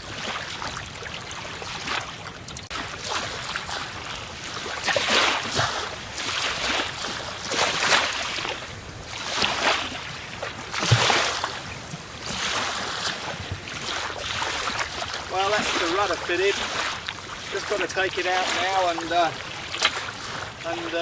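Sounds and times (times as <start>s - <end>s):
water sloshing against boat hull: 0.0s - 21.0s.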